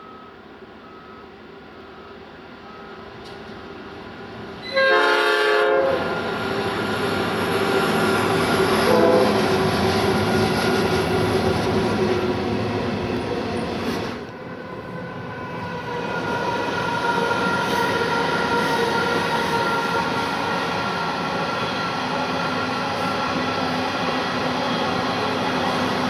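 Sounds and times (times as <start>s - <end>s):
train wheels on rails: 1.6s - 4.7s, 5.9s - 26.0s.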